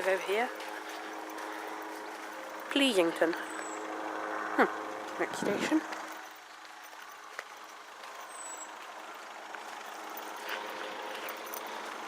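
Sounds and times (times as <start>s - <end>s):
diesel train running: 0.0s - 12.0s.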